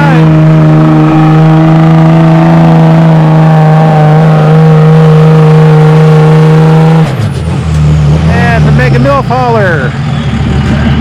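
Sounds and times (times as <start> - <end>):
truck engine at full throttle: 0.0 - 11.0.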